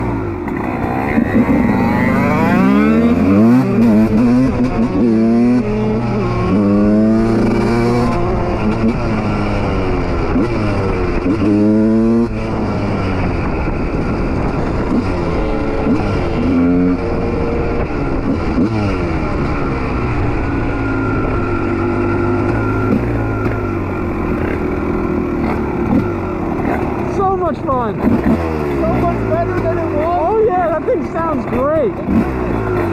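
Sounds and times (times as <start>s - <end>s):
motorcycle engines revving: 0.0s - 32.9s.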